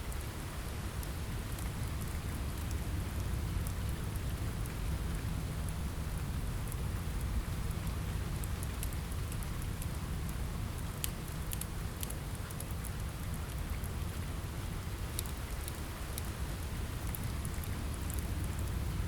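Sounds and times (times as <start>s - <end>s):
rain on a window: 0.0s - 19.0s.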